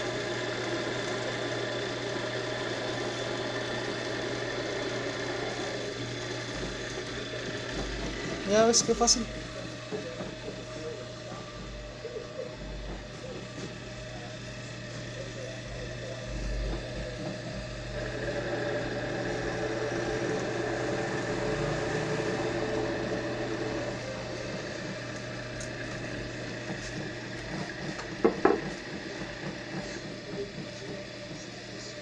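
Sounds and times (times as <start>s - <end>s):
drill bit cutting wood: 0.0s - 32.0s
drill press motor running: 0.0s - 32.0s.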